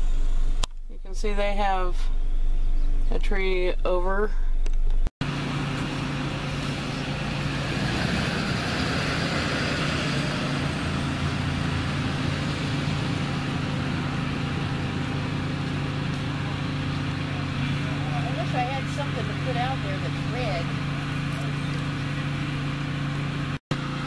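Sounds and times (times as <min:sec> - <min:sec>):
car engine hum: 0:00.0 - 0:24.0
road and tyre noise: 0:00.0 - 0:24.0.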